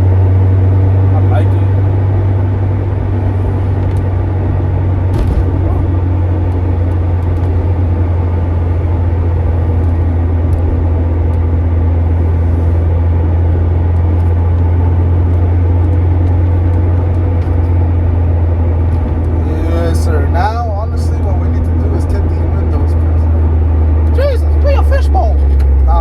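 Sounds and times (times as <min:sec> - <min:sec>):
car engine and road noise drone: 0:00.0 - 0:26.0.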